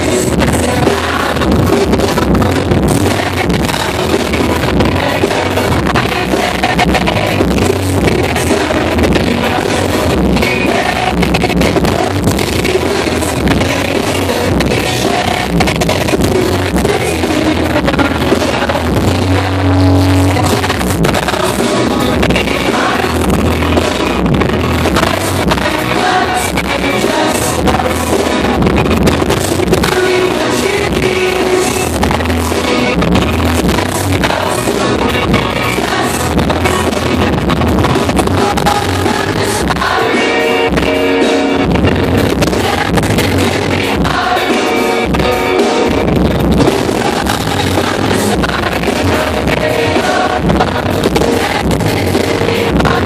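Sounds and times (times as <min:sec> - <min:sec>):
drums: 0:00.0 - 0:53.0
electric guitars: 0:00.0 - 0:53.0
person singing: 0:00.0 - 0:53.0.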